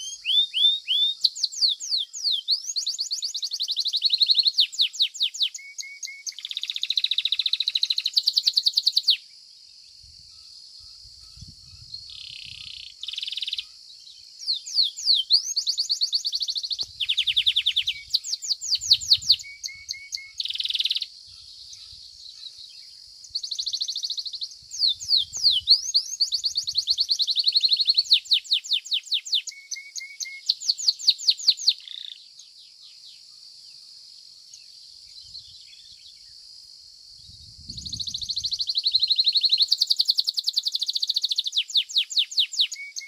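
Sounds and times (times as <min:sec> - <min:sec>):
canary singing trills: 0:00.0 - 0:09.3, 0:10.3 - 0:33.2, 0:37.7 - 0:43.0.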